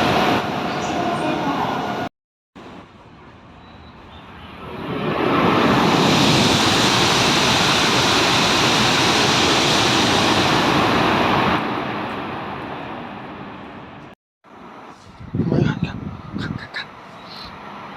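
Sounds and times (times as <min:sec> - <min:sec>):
high-speed train rushing past: 0:00.0 - 0:17.9.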